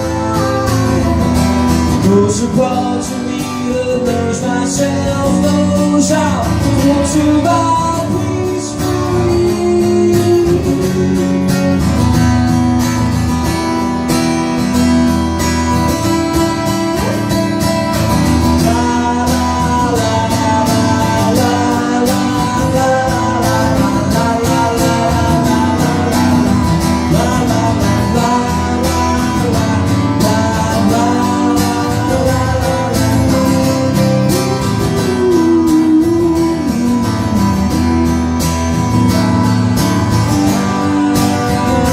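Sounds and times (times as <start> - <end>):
instrumental guitar playing: 0.0 - 41.9.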